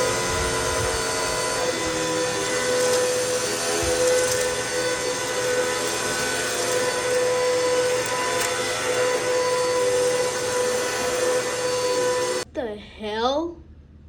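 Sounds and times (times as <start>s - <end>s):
vacuum airflow rush: 0.0s - 12.4s
vacuum cleaner motor whine: 0.0s - 12.4s.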